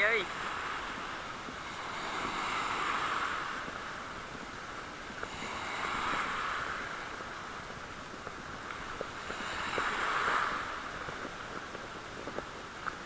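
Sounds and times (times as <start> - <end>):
sea waves surging through rocks: 0.0 - 13.0.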